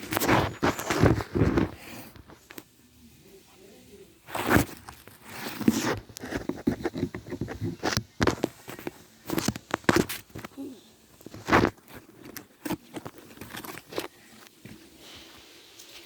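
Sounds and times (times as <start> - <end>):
rustling and scraping: 0.0 - 16.0.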